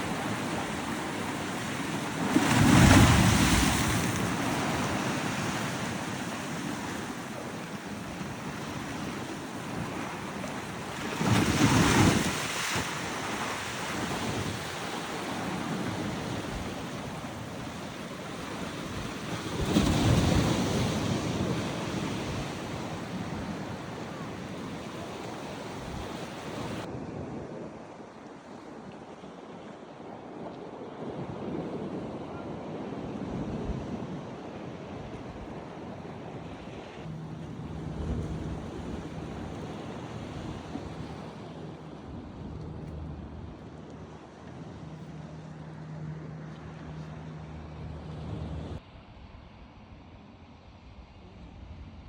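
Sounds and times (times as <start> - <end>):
wind buffeting the microphone: 0.0 - 28.1, 30.1 - 45.0
sea waves breaking on a beach: 0.0 - 49.0.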